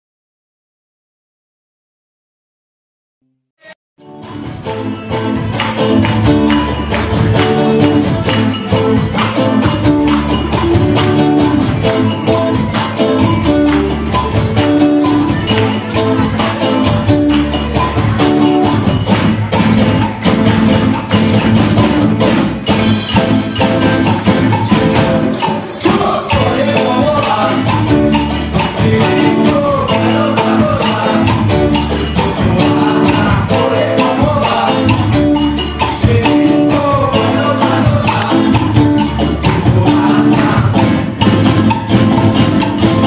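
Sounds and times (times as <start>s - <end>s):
drums: 3.6s - 43.0s
electric bass: 3.6s - 43.0s
lead electric guitar melody: 4.0s - 43.0s
agogo bells: 4.3s - 43.0s.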